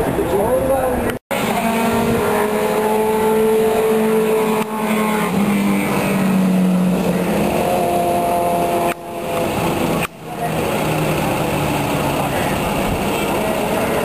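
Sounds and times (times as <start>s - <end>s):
higher motorcycle engine note: 1.3s - 14.0s
superbike engines at high revs: 1.3s - 14.0s.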